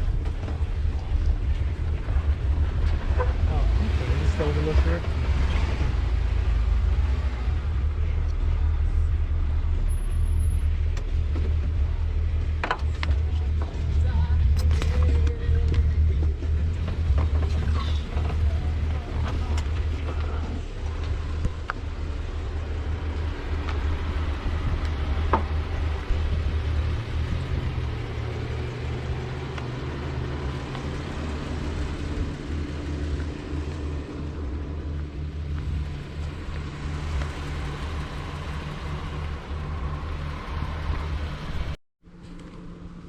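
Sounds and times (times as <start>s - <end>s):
engine running low hum: 0.0s - 43.0s.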